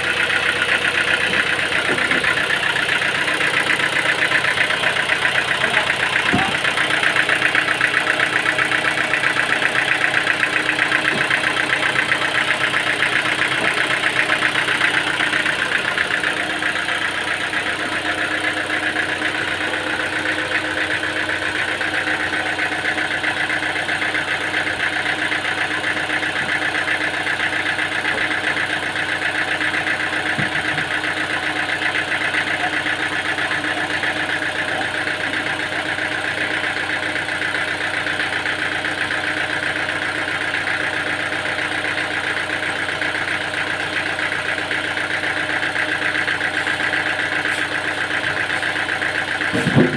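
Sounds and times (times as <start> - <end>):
sawmill machinery whirring: 0.0 - 49.9.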